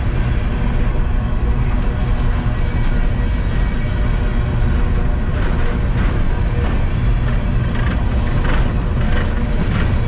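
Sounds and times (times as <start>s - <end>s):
steel train wheels rumbling on rails: 0.0s - 10.0s.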